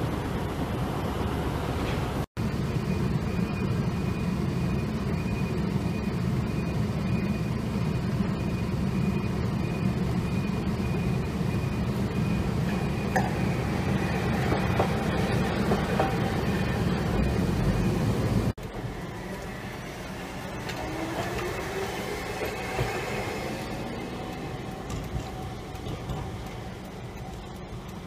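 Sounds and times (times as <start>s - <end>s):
street traffic rumble: 0.0s - 28.0s
tram passing: 0.0s - 28.0s.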